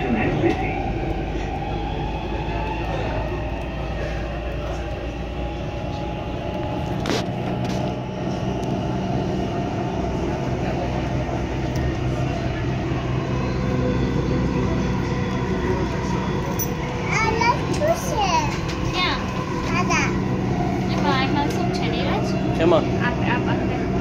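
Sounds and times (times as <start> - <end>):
train rumble and hum: 0.0 - 24.0.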